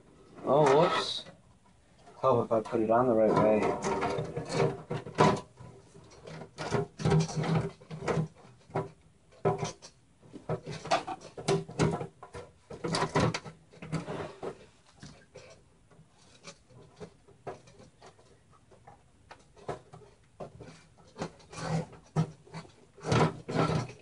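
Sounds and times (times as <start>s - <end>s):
computer parts clicking and knocking: 2.6s - 14.0s, 16.2s - 24.0s.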